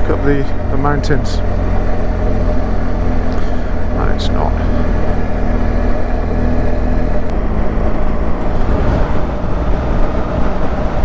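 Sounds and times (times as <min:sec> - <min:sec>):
motorcycle engine running: 0:00.0 - 0:11.0
wind rushing over microphone: 0:01.4 - 0:11.0.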